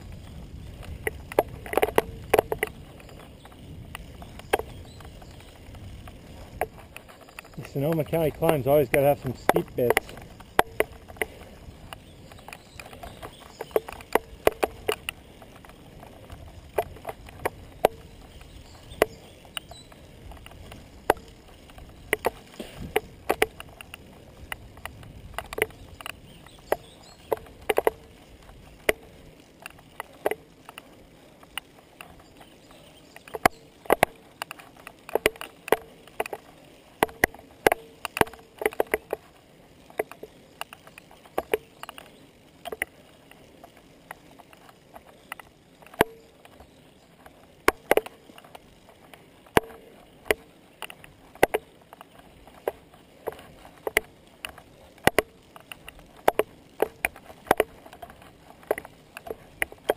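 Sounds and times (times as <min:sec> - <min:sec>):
bicycle riding rumble: 0:00.0 - 0:59.9
sharp clicks and knocks: 0:00.7 - 0:59.9.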